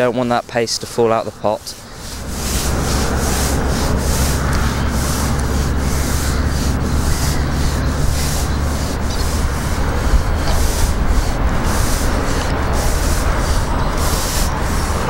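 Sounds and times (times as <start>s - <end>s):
fishing pole sections sliding: 1.6s - 15.0s
low rumble: 1.8s - 14.2s.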